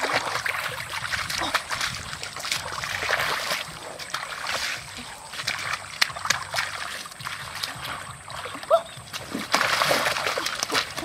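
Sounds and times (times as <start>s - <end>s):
hands splashing in shallow water: 0.0s - 11.0s.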